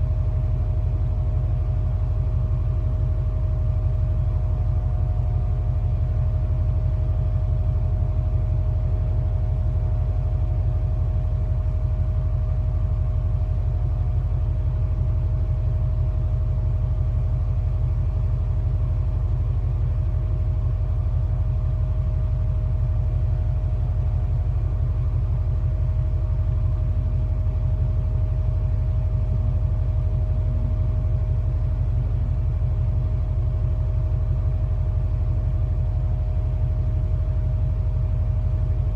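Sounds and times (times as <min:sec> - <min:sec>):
ship engine low drone: 0:00.0 - 0:38.9.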